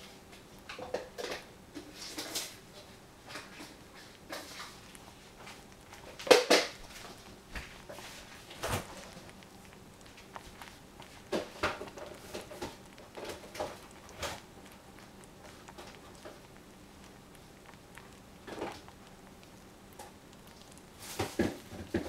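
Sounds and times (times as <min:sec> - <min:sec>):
syrup simmering with bubbles popping: 0:00.0 - 0:22.0.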